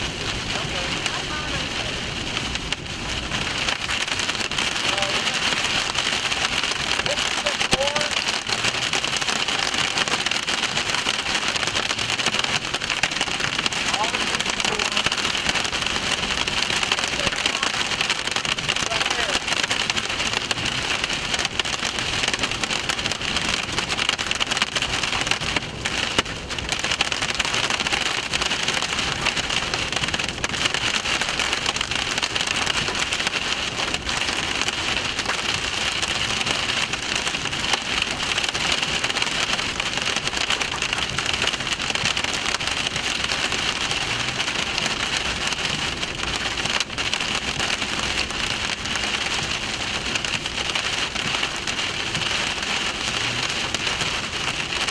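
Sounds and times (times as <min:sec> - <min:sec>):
heavy rain on a vehicle: 0:00.0 - 0:54.9.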